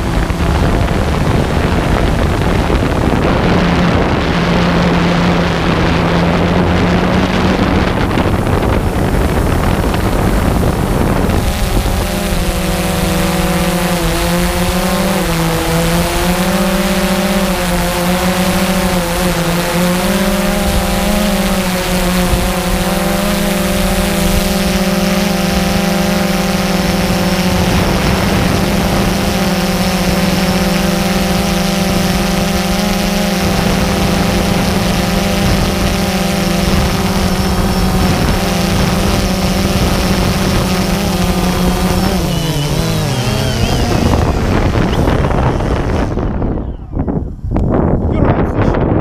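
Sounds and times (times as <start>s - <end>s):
drone motors humming: 0.0s - 48.0s.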